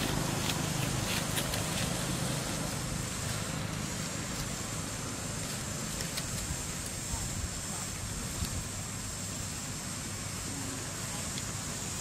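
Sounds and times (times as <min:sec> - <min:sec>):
low motor hum: 0:00.0 - 0:12.0
outdoor background noise: 0:00.0 - 0:12.0.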